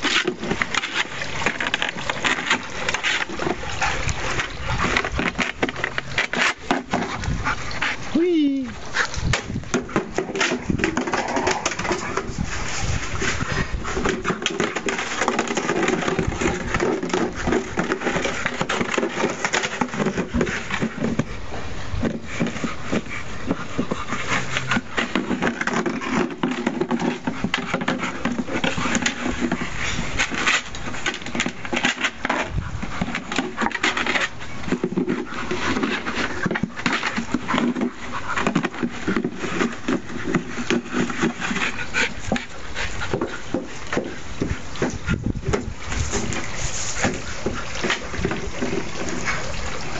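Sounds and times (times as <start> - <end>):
plastic watering can clattering: 0.0 - 7.9, 9.3 - 21.4, 22.0 - 49.9.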